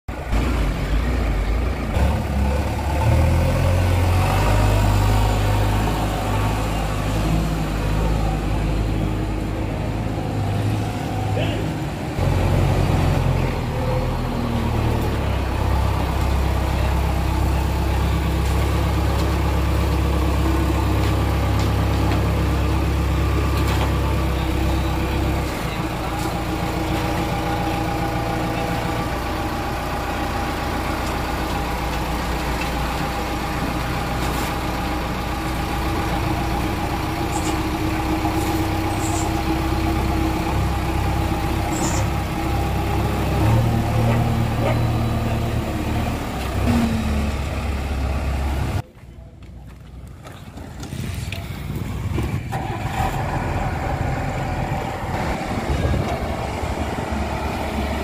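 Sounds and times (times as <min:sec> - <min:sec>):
diesel engine under load: 0:00.1 - 0:58.0.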